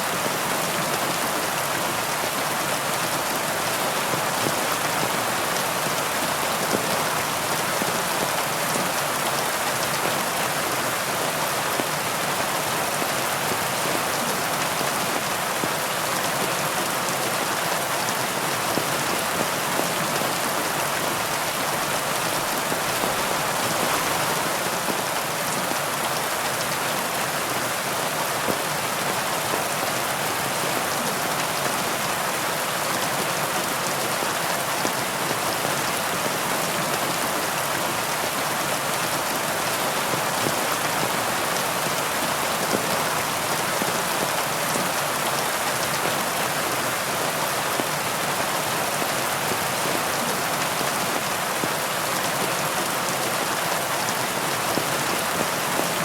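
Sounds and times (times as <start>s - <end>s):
heavy rain pattering: 0.1s - 56.0s.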